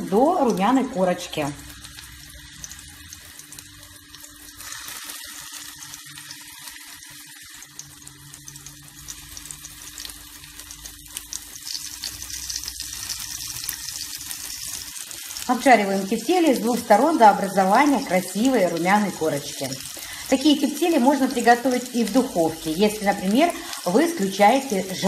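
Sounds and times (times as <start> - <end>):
oil sizzling in a frying pan: 0.0 - 25.0.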